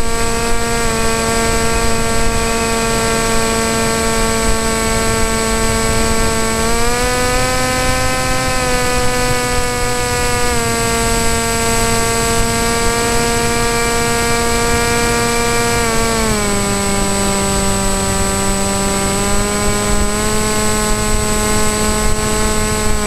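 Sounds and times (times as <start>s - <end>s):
model aircraft motor drone: 0.0s - 23.0s
thin high whine: 0.0s - 23.0s.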